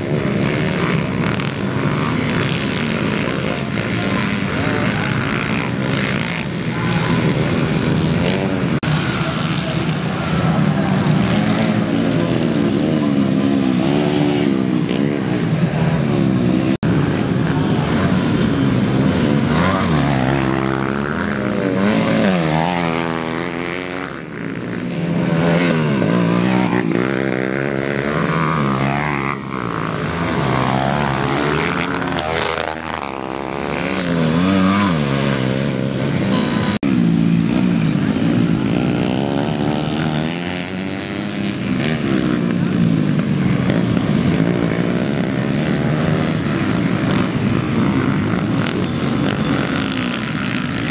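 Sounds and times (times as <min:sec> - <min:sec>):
motocross motorcycles revving: 0:00.0 - 0:50.9.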